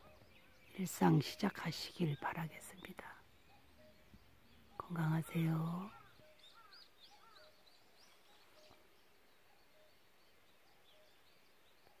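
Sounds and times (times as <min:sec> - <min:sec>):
birds chirping: 0:00.0 - 0:12.0
faint outdoor hiss: 0:00.0 - 0:12.0
lower bird chirps: 0:00.0 - 0:12.0.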